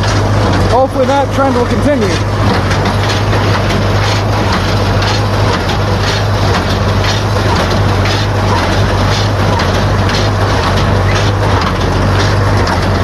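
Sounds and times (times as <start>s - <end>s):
baler knocking rhythmically: 0.0s - 13.0s
tractor engine running: 0.0s - 13.0s.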